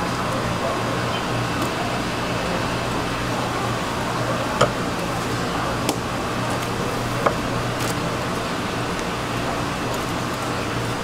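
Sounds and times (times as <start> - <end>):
fish market background noise: 0.0 - 11.0.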